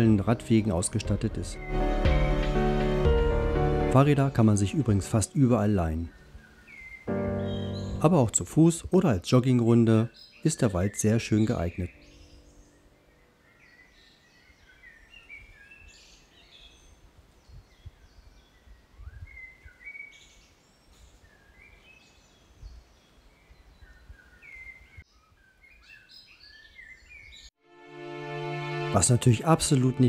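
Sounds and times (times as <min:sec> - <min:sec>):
songbirds chirping and singing: 0:00.0 - 0:03.3, 0:03.9 - 0:27.5.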